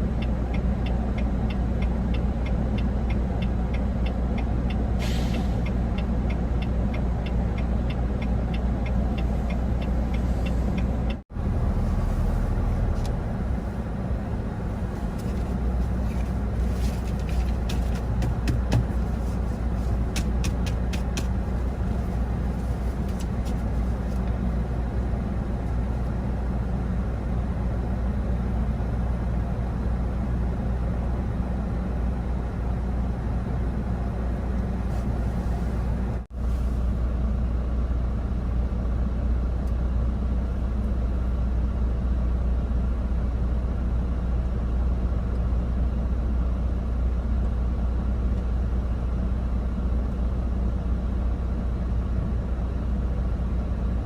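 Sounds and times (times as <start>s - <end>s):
truck driving on road: 0.0s - 54.0s.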